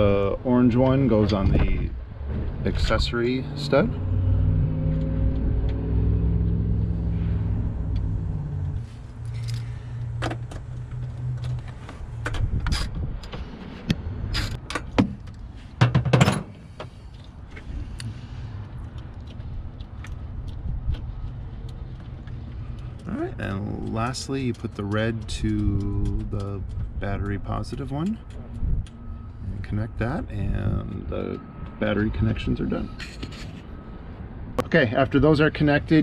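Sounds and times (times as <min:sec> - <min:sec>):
low steady rumble: 0:00.0 - 0:15.7, 0:16.6 - 0:36.0.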